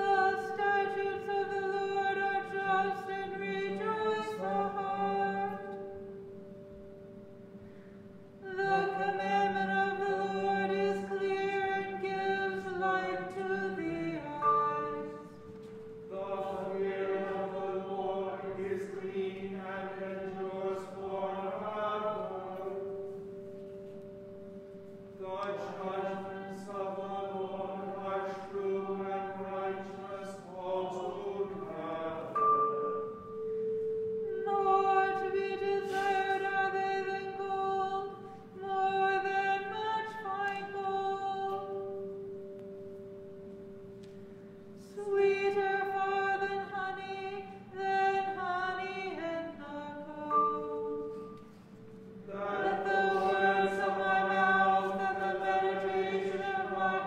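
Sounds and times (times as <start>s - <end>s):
congregation chanting a psalm: 0.0s - 6.1s, 8.4s - 43.0s, 44.8s - 57.0s
organ sustaining notes: 0.0s - 57.0s.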